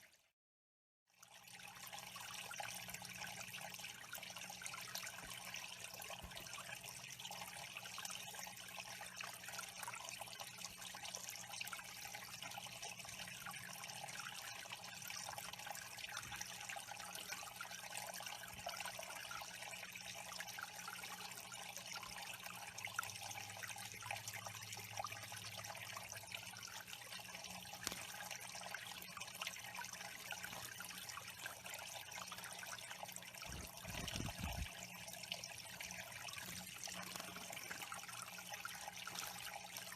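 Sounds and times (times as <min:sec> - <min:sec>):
water trickling: 0:01.1 - 0:39.9.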